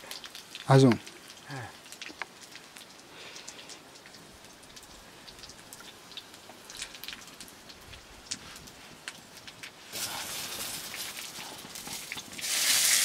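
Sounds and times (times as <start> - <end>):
wood fire hissing: 0.0 - 13.0.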